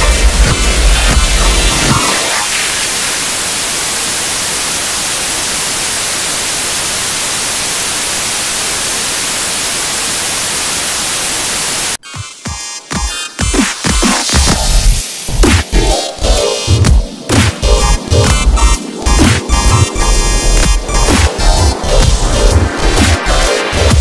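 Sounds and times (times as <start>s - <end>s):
tv static hiss: 0.0s - 12.0s, 14.2s - 24.0s.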